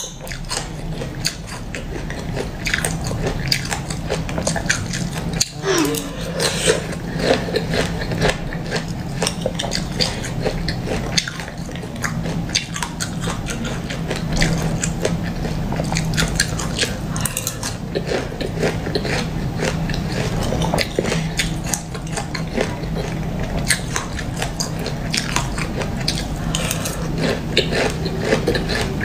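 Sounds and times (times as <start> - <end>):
crunching and chewing frozen seeds: 0.0 - 29.0
steady low hum: 0.0 - 29.0.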